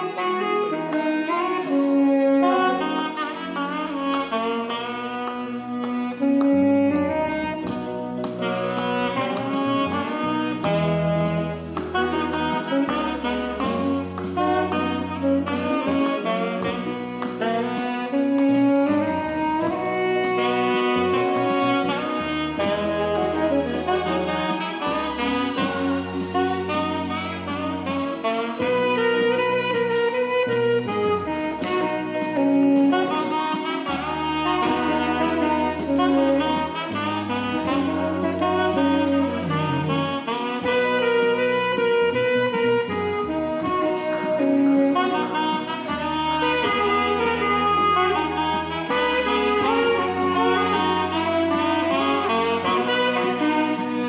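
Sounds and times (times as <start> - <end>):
backing track with bass and beat: 0.0 - 54.0
saxophone melody: 0.0 - 54.0.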